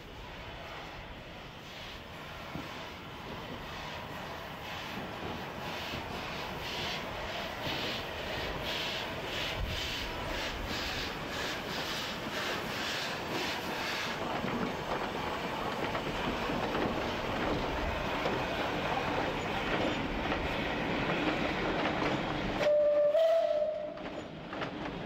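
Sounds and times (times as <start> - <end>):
steam locomotive exhaust puffing: 0.6 - 24.1
train wheels clattering on rails: 2.4 - 25.0.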